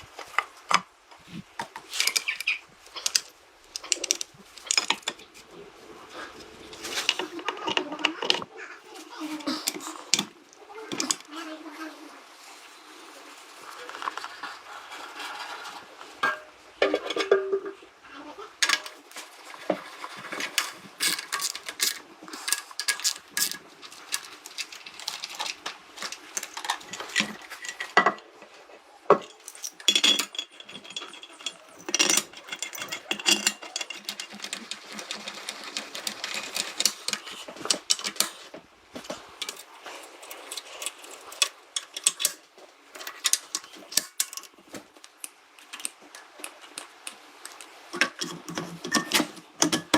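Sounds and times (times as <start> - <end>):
small hard objects clattering: 0.0 - 11.4, 18.6 - 28.4, 29.1 - 49.9.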